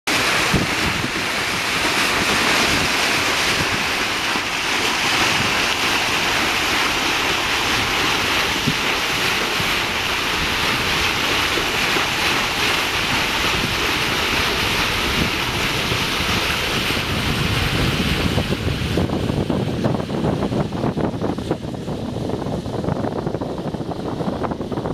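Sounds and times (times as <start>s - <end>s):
water rushing past ship hull: 0.1s - 24.9s
wind buffeting microphone: 0.2s - 24.9s.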